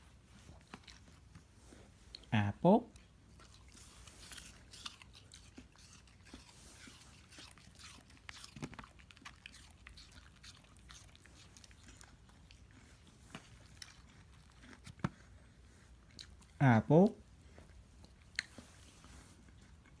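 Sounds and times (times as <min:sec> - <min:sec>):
puppy chewing apple: 0:00.0 - 0:02.3, 0:02.9 - 0:20.0.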